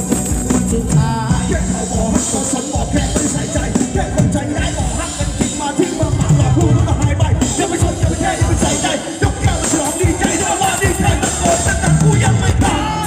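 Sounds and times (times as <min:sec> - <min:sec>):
live band music over loudspeakers: 0:00.0 - 0:13.0.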